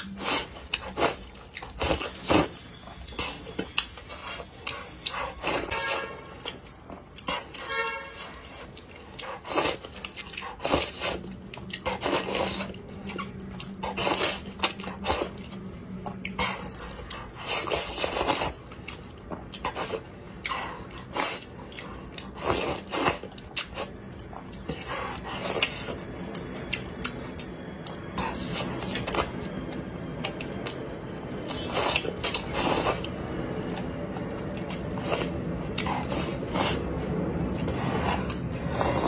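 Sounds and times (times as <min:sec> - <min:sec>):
chewing: 0:00.0 - 0:39.0.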